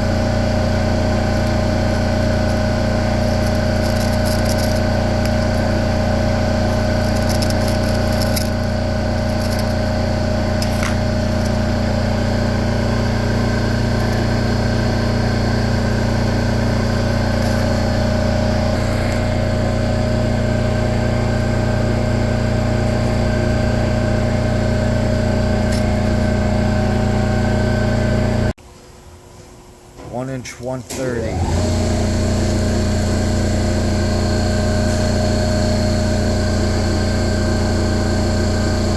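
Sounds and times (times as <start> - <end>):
loud steady machine hum: 0.0 - 28.6, 29.7 - 38.9.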